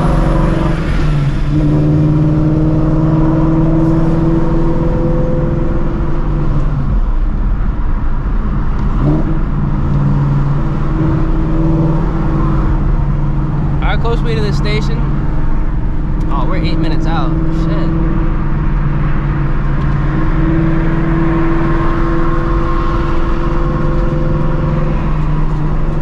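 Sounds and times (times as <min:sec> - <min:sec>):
car engine cruising: 0:00.0 - 0:26.0.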